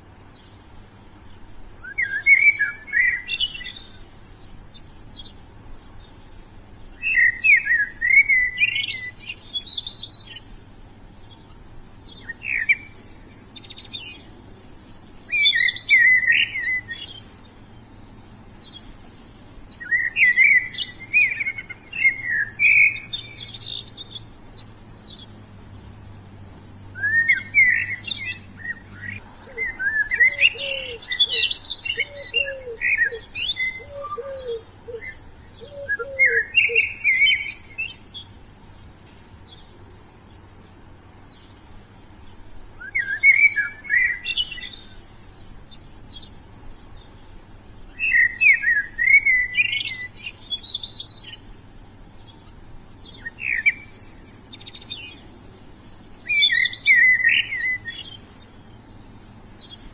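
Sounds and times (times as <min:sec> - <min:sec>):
lower bird call: 0:00.0 - 0:40.6, 0:41.3 - 0:59.9
songbird chirps and trills: 0:00.0 - 0:59.9.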